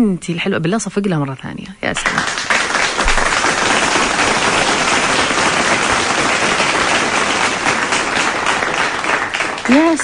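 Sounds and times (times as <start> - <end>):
hands clapping: 1.9 - 10.0.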